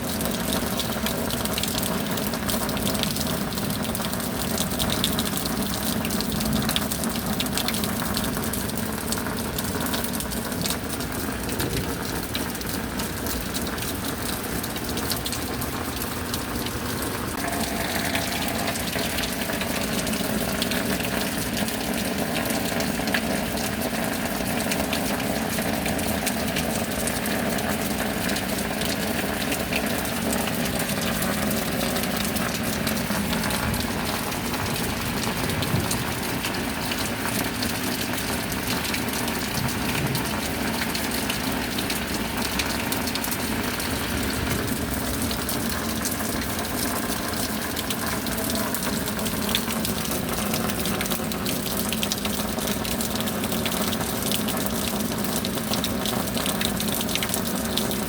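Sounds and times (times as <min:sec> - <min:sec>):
steady rain: 0:00.0 - 0:58.0
water pouring from downspout: 0:00.0 - 0:58.0.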